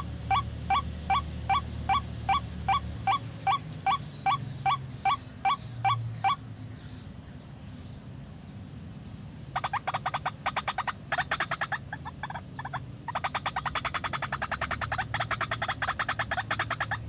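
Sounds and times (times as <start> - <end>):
waterhen kwak calls: 0.0 - 6.4, 9.5 - 17.0.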